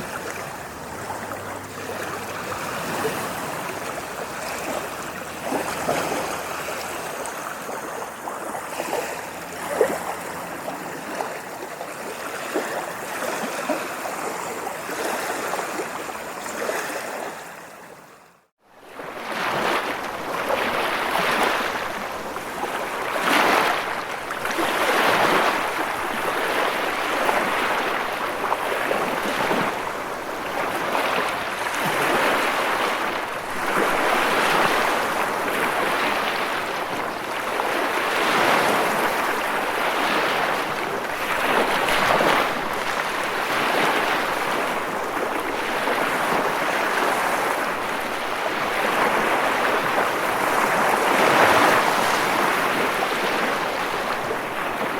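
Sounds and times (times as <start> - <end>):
ocean waves washing ashore: 0.0 - 54.9.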